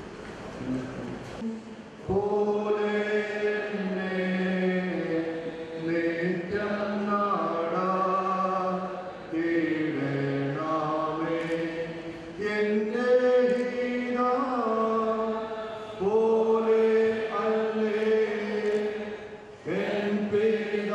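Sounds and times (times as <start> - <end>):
voices singing a slow hymn: 1.4 - 20.9.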